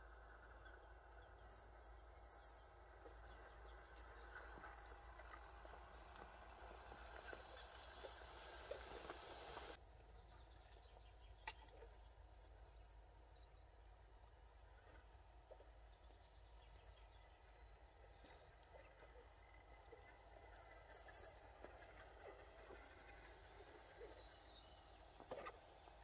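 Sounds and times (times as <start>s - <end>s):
low steady rumble: 0.0s - 26.0s.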